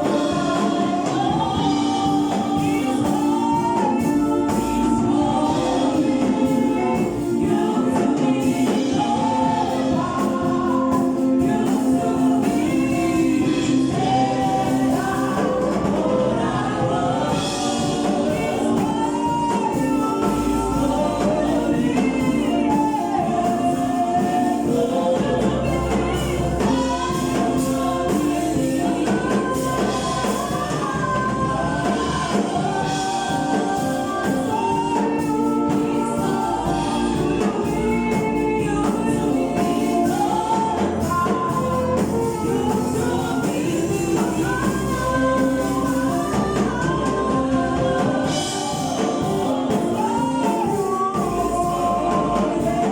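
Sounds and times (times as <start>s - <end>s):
bass line: 0.0s - 52.9s
gospel choir singing: 0.0s - 52.9s.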